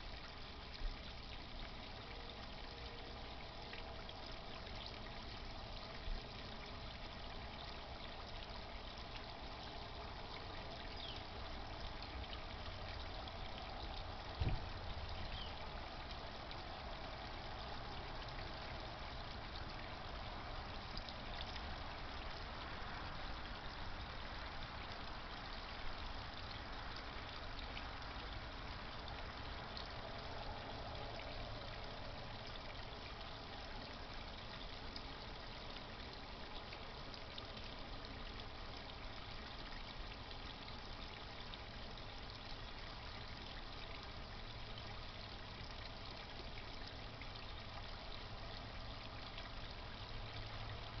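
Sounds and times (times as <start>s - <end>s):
water trickling and splashing: 0.0s - 51.0s.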